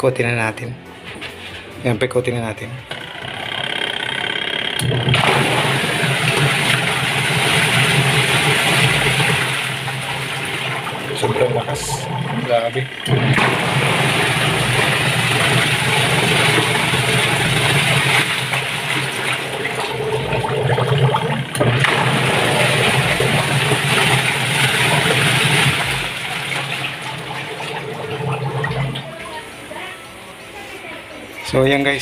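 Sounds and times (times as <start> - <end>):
washing machine motor hum: 0.1 - 32.0
washing machine agitator churning: 2.9 - 32.0.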